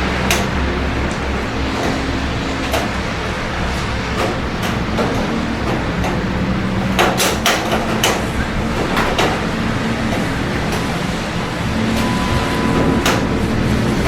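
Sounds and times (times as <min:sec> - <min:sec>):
city traffic hum: 0:00.0 - 0:14.0
rain: 0:00.0 - 0:14.0.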